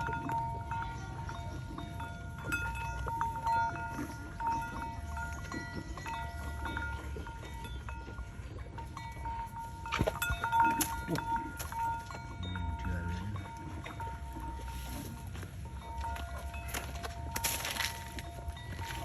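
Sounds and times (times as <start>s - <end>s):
livestock bells ringing: 0.0s - 19.0s.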